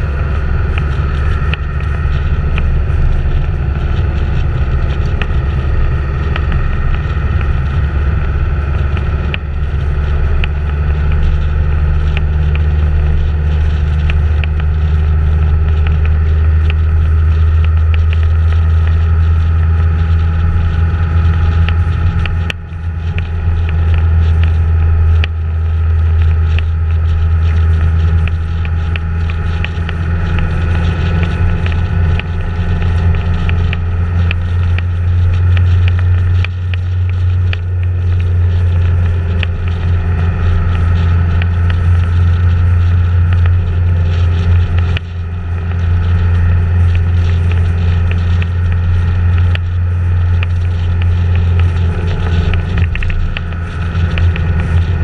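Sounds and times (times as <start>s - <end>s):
light scattered ticks: 0.0s - 55.0s
road and wind noise: 0.0s - 55.0s
vehicle driving at speed: 0.0s - 55.0s.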